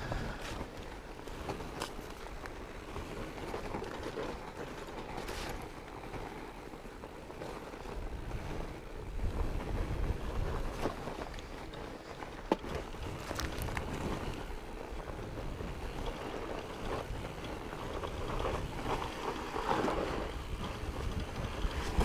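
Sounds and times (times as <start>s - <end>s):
bike clicks and rattles: 0.0s - 22.0s
bike tyres rumbling over trail: 0.0s - 22.0s.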